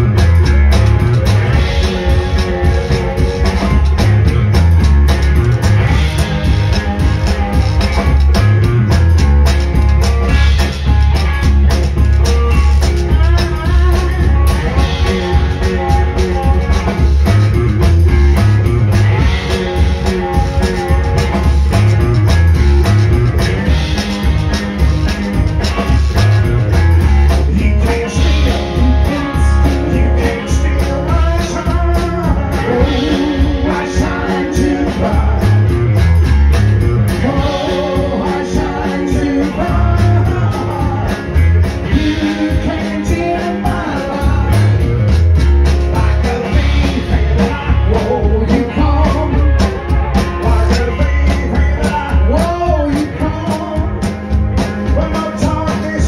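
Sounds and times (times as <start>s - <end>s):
electric guitar playing: 0.0s - 56.0s
heavy drum beat: 0.0s - 56.0s.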